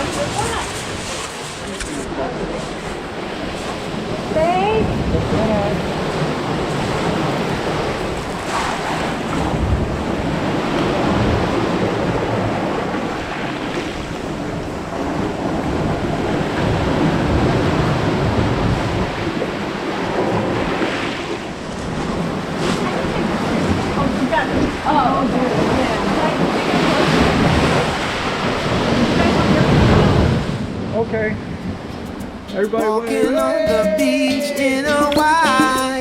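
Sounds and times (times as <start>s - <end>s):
wind buffeting microphone: 0.0s - 32.6s
ocean surf washing ashore: 0.0s - 36.0s.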